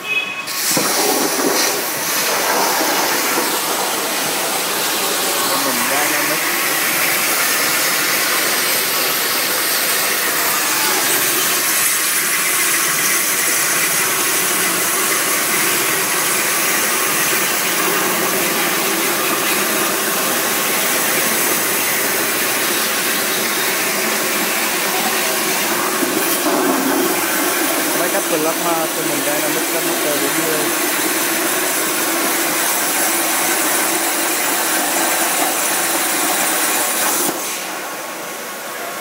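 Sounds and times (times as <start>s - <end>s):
plasma cutter hissing: 0.4s - 31.8s, 32.5s - 38.1s.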